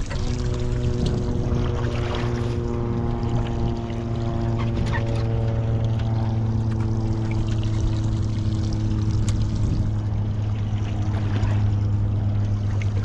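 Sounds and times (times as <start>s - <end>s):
boat motor humming: 0.0s - 13.0s
water splashing against hull: 0.0s - 13.0s.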